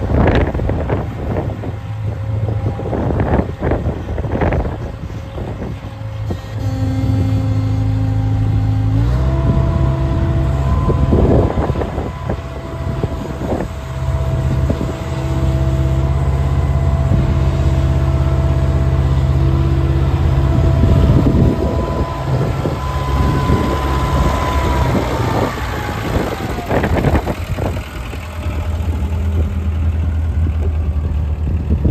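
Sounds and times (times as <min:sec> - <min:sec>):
engine whine: 0:00.0 - 0:31.9
skid steer engine running: 0:00.0 - 0:31.9.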